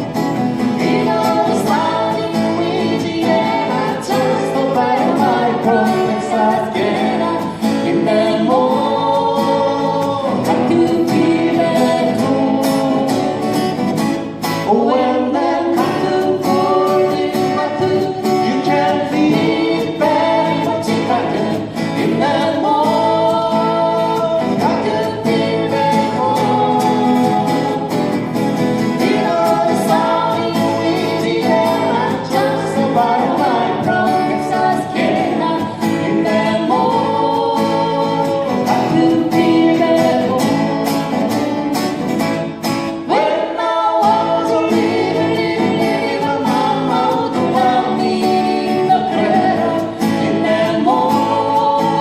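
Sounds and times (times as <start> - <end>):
guitar accompaniment: 0.0 - 52.0
person singing: 0.7 - 13.8, 14.6 - 28.2, 28.8 - 42.0, 43.0 - 52.0.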